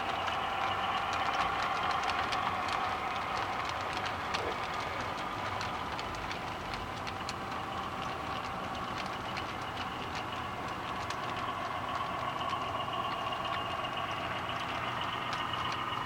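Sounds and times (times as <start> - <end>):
model train whirring: 0.0 - 16.0
small irregular clicks: 0.0 - 16.0.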